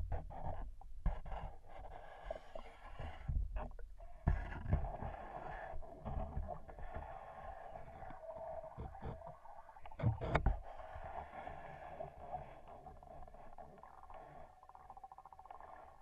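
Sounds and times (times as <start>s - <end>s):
muffled underwater river rush: 1.8s - 16.0s.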